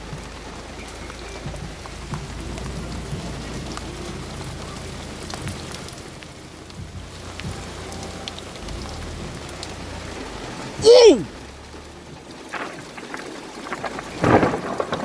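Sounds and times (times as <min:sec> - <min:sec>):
heavy rain pouring: 0:00.0 - 0:15.0
raindrops hitting surfaces: 0:00.0 - 0:15.0.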